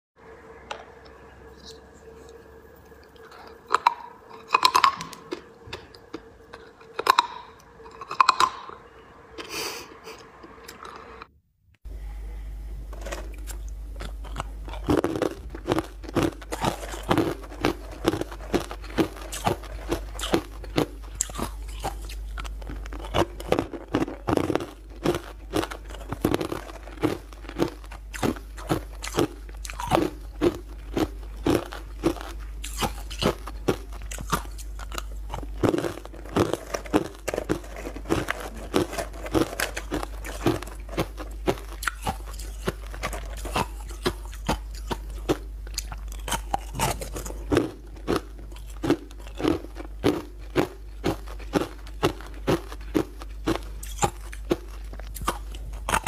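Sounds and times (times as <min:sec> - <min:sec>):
faint hum: 0:00.2 - 0:56.0
crunching and chewing: 0:00.6 - 0:11.3, 0:12.8 - 0:56.0.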